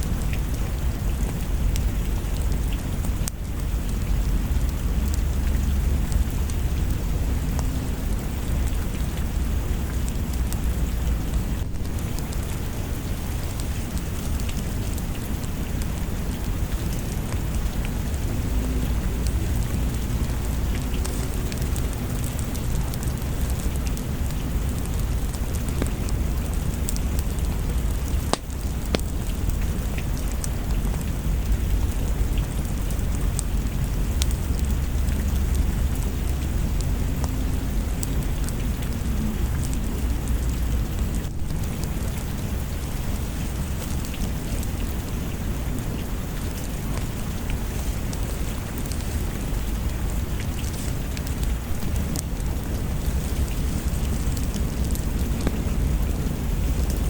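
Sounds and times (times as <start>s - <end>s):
deep rumble: 0.0s - 57.0s
fireplace fire crackling: 0.0s - 57.0s
steady rain: 0.0s - 57.0s.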